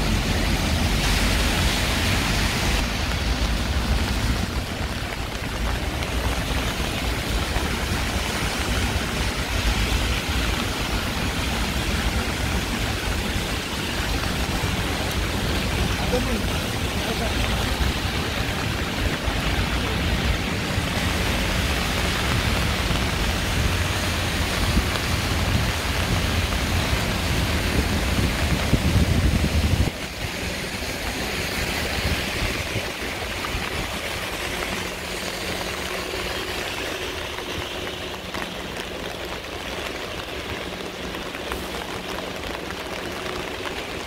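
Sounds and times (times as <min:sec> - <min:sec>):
heavy rain hissing: 0:00.0 - 0:44.0.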